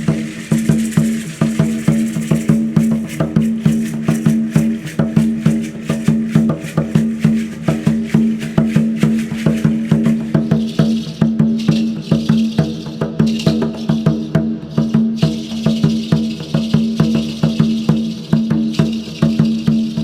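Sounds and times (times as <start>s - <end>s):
pitched wooden drum: 0.0s - 20.0s
rattles shaking: 0.0s - 20.0s.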